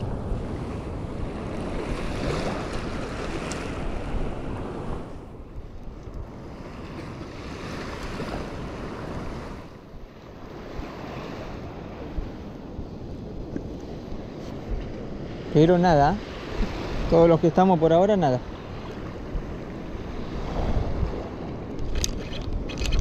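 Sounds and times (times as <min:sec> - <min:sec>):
wind buffeting microphone: 0:00.0 - 0:17.8, 0:18.4 - 0:23.0
surf washing: 0:00.0 - 0:23.0.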